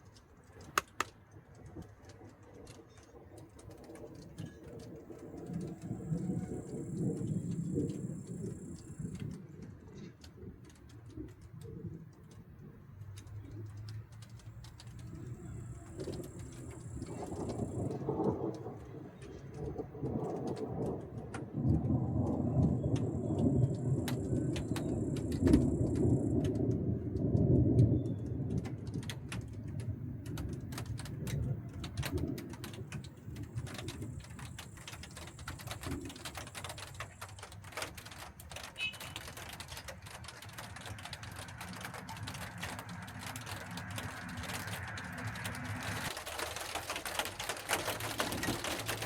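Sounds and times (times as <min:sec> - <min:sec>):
dripping rain ticks: 0:00.0 - 0:49.0
distant thunder rumbling: 0:02.7 - 0:13.6, 0:14.2 - 0:49.0.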